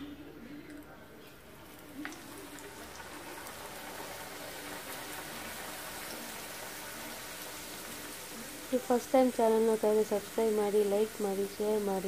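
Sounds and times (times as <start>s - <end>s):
dough deep-frying in oil: 0.4s - 12.0s.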